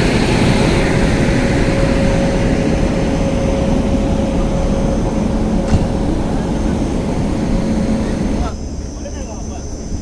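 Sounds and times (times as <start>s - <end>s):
fan-like rush: 0.0s - 10.0s
steady machinery whine: 0.0s - 10.0s.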